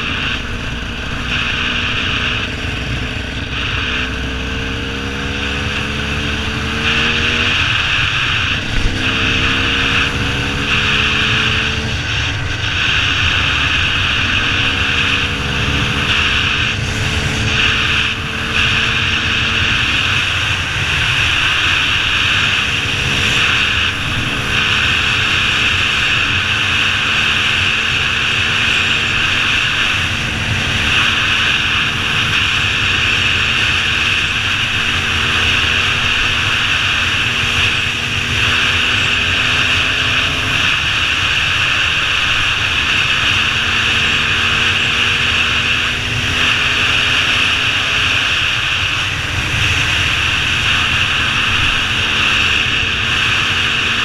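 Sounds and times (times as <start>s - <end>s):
dirt bike engine running: 0.0s - 54.0s
wind rush on microphone: 0.0s - 54.0s.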